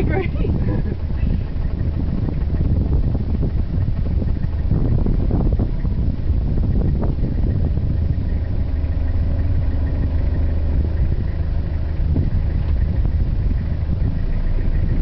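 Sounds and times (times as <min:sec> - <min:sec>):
car engine running low revs: 0:00.0 - 0:15.0.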